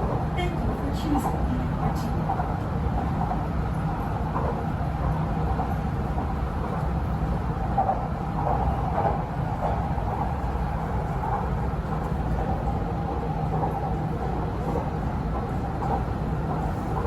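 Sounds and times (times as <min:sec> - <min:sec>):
electric train rumbling inside carriage: 0:00.0 - 0:17.0.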